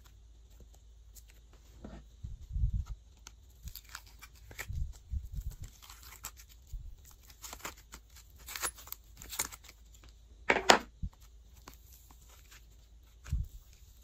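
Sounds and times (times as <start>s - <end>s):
plastic mould crinkling: 2.8s - 14.0s.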